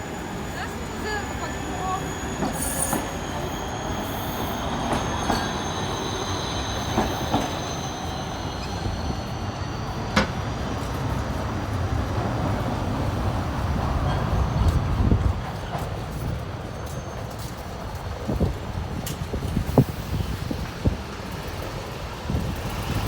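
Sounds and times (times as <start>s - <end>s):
electric tram running on rails: 0.0s - 23.0s.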